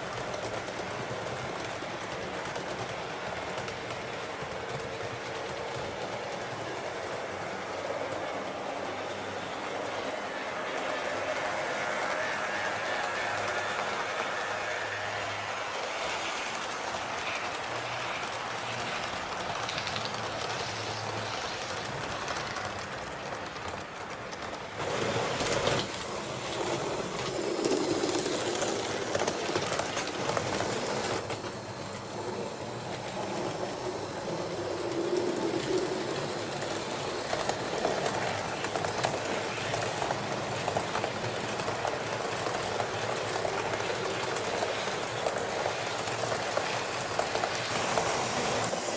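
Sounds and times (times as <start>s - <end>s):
model train running on track: 0.0s - 48.9s.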